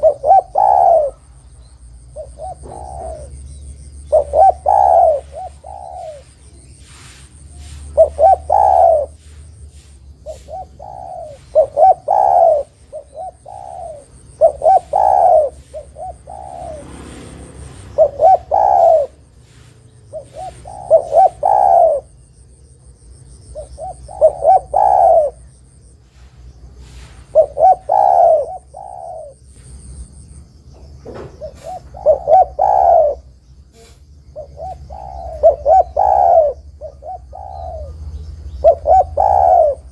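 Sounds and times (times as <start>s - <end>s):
dove cooing: 0.0s - 22.5s, 23.4s - 29.9s, 31.0s - 39.9s.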